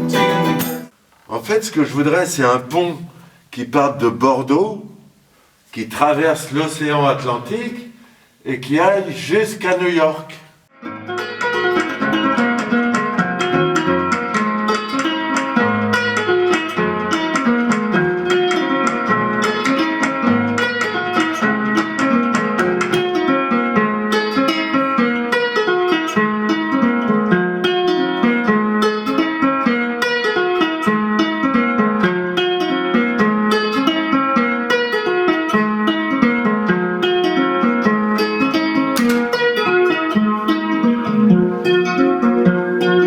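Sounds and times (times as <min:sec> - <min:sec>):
plucked guitar music: 0:00.0 - 0:01.0, 0:09.1 - 0:43.0.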